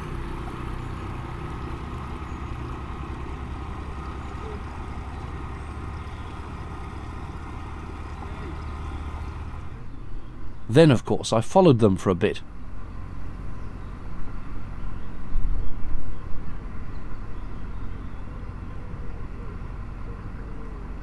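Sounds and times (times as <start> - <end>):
boat engines humming: 0.0 - 21.0.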